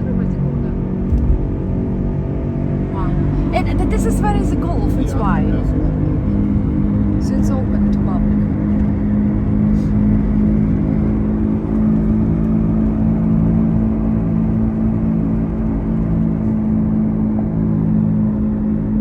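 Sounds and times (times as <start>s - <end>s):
road and engine noise inside car: 0.0s - 19.0s.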